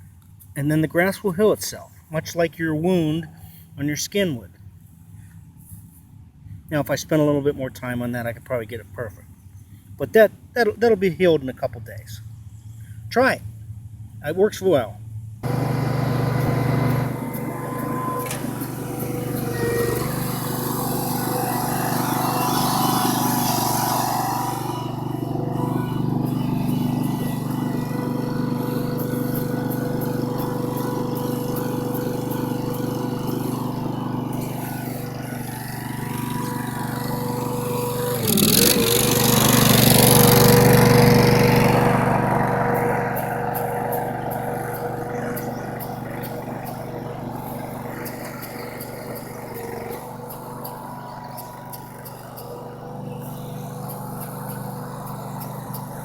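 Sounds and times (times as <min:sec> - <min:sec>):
small engine running with whine: 0:00.0 - 0:03.8, 0:12.1 - 0:56.0.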